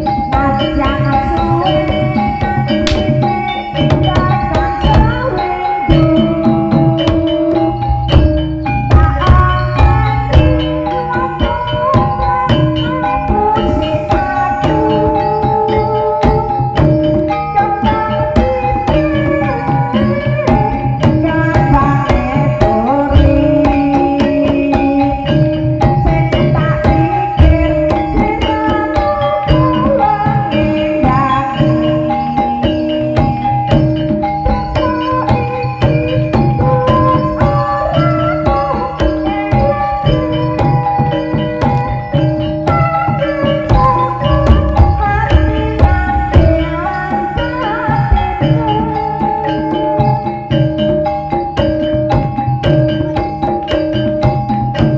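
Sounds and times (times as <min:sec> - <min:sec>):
drum strokes: 0:00.0 - 0:54.9
gamelan metal keyed instruments: 0:00.0 - 0:54.9
tuned percussion melody: 0:00.0 - 0:54.9.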